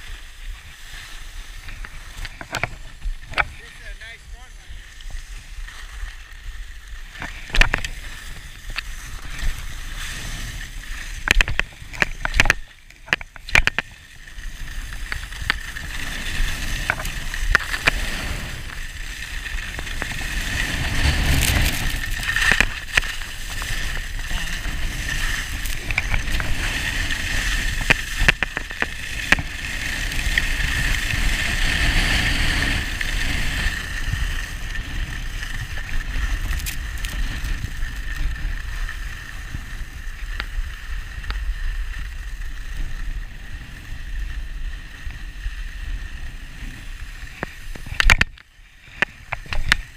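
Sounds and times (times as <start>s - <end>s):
skis scraping over snow: 0.0s - 49.9s.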